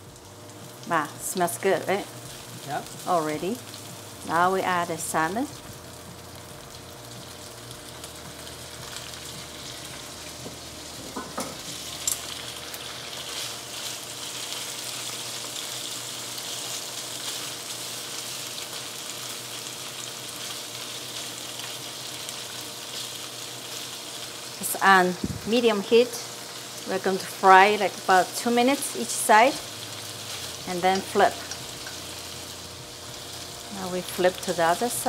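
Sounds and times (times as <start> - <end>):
fish sizzling in hot oil: 0.0 - 35.0.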